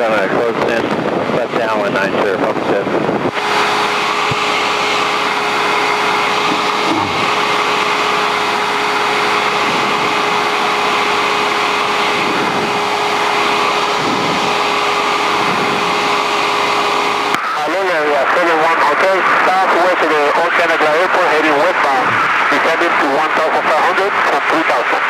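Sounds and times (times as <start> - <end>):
propeller plane engine droning: 0.0 - 25.0
steady hum: 0.0 - 25.0
airflow noise: 0.3 - 25.0.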